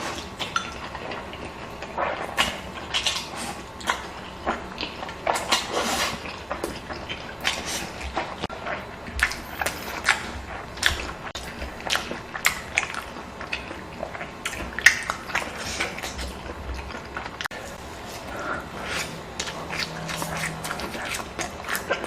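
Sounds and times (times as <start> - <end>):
person chewing and biting: 0.0 - 22.0.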